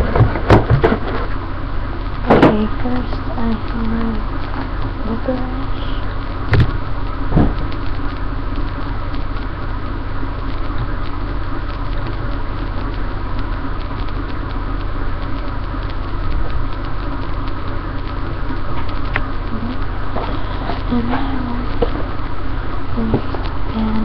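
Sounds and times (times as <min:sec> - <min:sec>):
microphone buzzing hum and hiss: 0:00.0 - 0:24.0.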